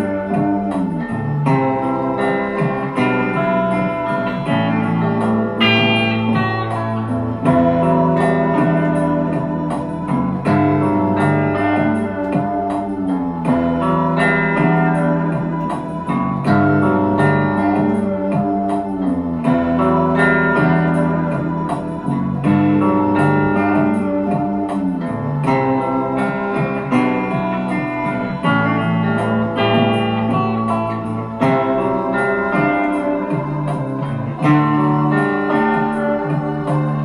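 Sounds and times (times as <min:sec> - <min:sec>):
bass line: 0:00.0 - 0:37.0
guitar: 0:00.0 - 0:37.0
keyboard chords: 0:00.0 - 0:37.0.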